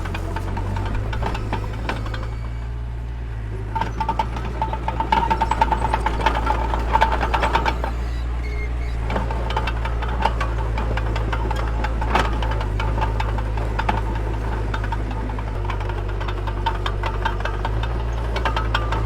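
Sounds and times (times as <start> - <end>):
bulldozer engine running: 0.0 - 19.0.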